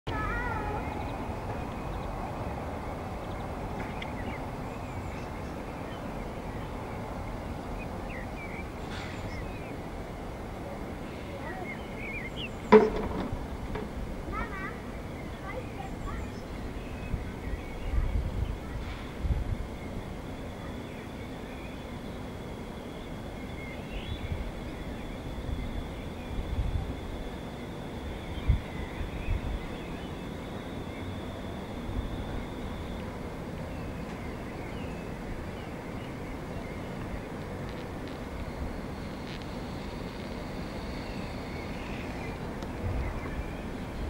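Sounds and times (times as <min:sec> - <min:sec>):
small birds chirping: 0:00.1 - 0:09.9, 0:11.0 - 0:12.9, 0:14.3 - 0:44.0
distant helicopter rumble: 0:00.1 - 0:44.0.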